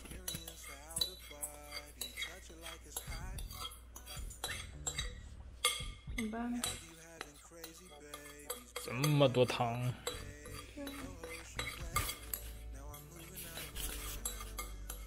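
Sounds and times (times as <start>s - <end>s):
spoon clinking against glass bowl: 0.0s - 15.0s.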